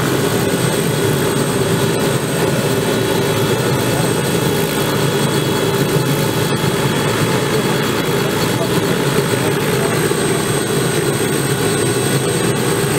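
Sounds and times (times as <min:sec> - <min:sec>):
helicopter rotor noise: 0:00.0 - 0:12.9
helicopter turbine whine: 0:00.0 - 0:12.9.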